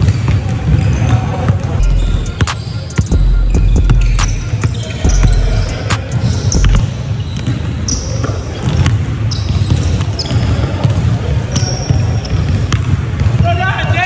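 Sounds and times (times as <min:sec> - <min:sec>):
sneaker squeaks: 0:00.0 - 0:13.6.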